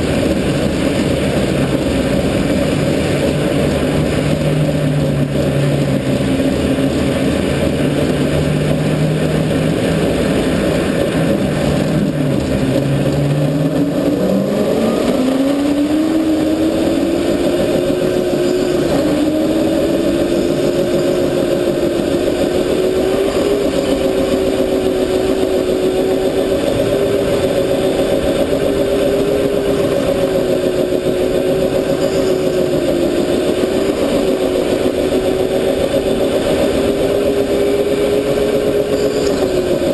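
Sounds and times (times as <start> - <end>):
constant rushing noise: 0.0 - 39.9
go-kart motor whining: 0.0 - 39.9.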